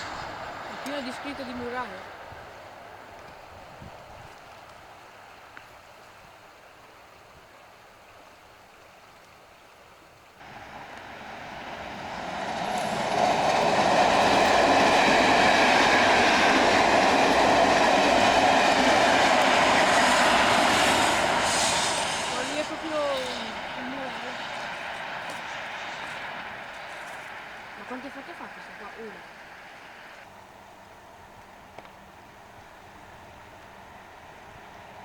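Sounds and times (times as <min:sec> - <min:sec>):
train passing: 0:00.0 - 0:07.0, 0:10.4 - 0:35.0.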